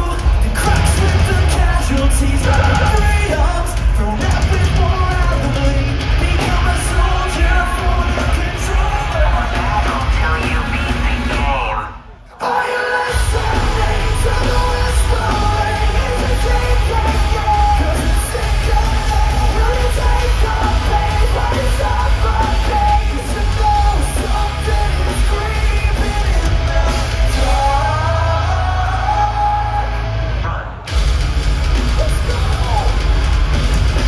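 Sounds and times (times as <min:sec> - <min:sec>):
pounding drums: 0:00.0 - 0:30.1, 0:30.8 - 0:34.0
person singing and yelling: 0:00.0 - 0:30.9, 0:31.9 - 0:33.2
distorted guitars: 0:00.0 - 0:34.0.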